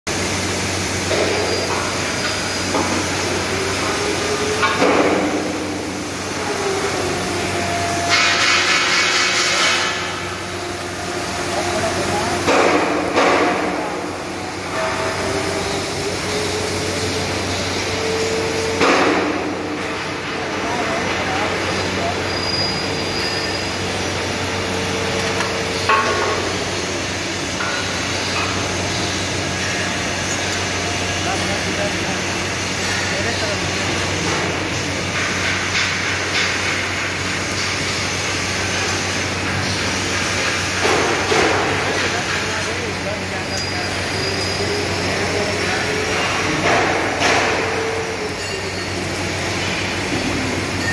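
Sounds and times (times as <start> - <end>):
workshop hiss and hum: 0.1 - 50.9.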